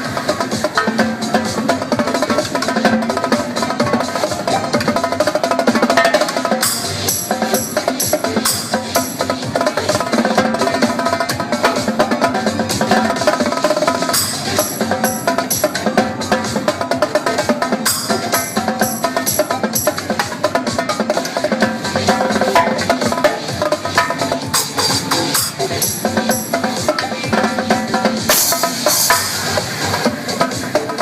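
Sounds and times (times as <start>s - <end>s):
dance music: 0.0s - 31.0s
drum kit stick strokes: 0.0s - 31.0s.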